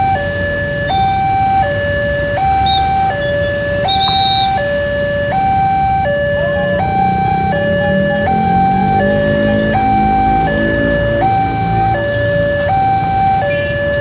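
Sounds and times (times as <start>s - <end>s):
level crossing two-tone alarm: 0.0s - 14.0s
low vehicle engine rumble: 0.0s - 14.0s.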